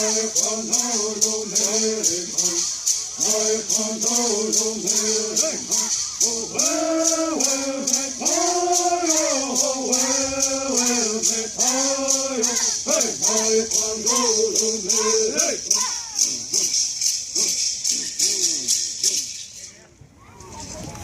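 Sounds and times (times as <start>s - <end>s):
men singing: 0.0s - 16.8s
gourd rattles shaken: 0.0s - 19.8s.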